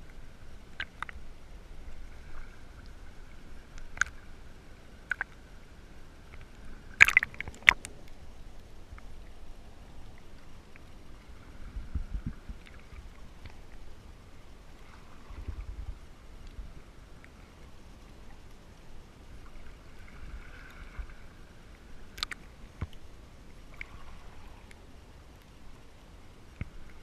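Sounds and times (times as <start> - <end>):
seawater sloshing underwater: 0.0 - 27.0.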